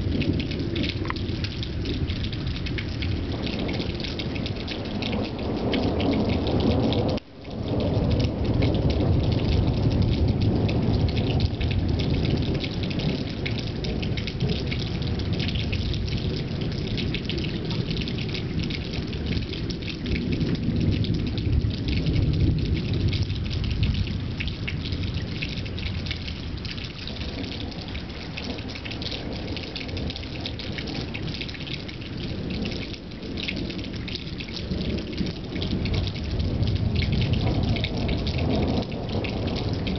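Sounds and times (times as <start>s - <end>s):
low rumble of thunder: 0.0s - 39.9s
steady rain pattering: 0.0s - 39.9s.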